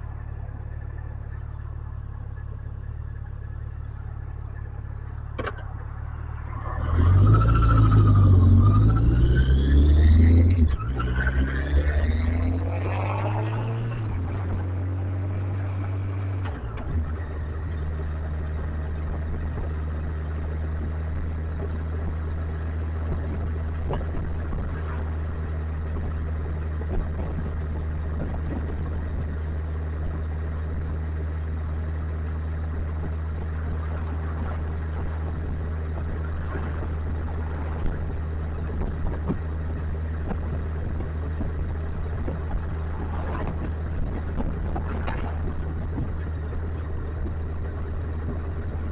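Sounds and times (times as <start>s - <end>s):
motorcycle engine cruising: 0.0s - 48.9s.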